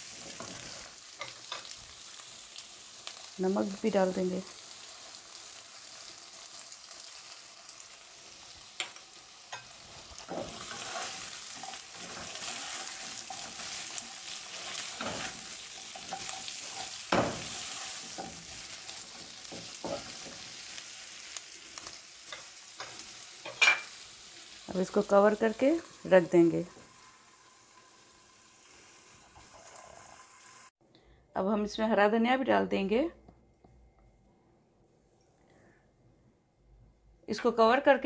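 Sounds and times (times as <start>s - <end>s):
potatoes sizzling in oil: 0.0s - 30.7s.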